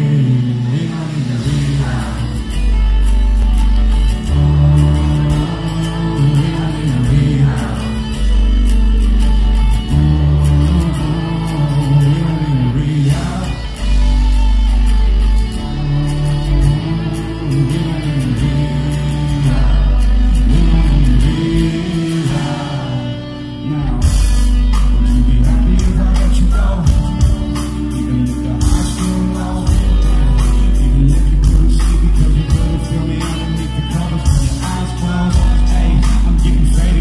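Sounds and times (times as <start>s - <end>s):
heavy bass: 0.0s - 37.0s
live rock band: 0.0s - 37.0s
person singing: 0.0s - 37.0s.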